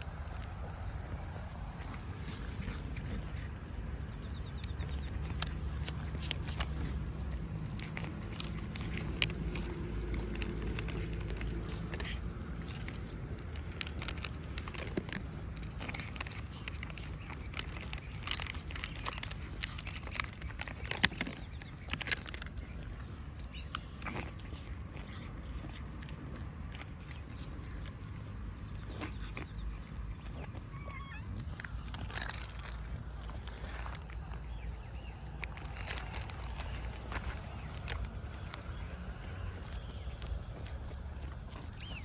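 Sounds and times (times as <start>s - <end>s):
cats chewing food: 0.0s - 42.0s.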